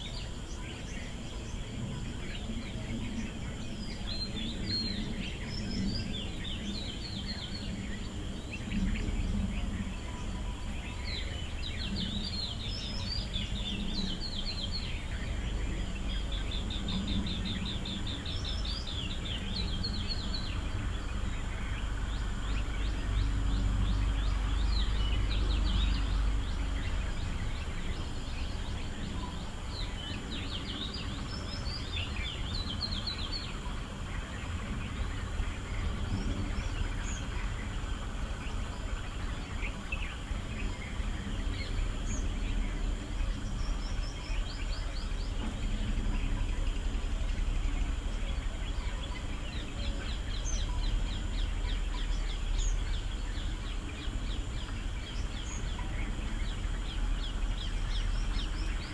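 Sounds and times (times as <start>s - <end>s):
birds chirping: 0.0s - 58.9s
steady low rumble: 0.0s - 58.9s.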